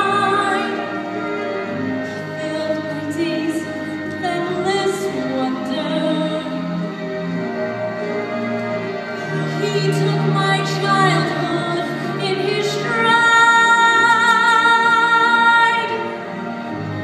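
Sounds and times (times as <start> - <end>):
soft sustained accompaniment: 0.0 - 17.0.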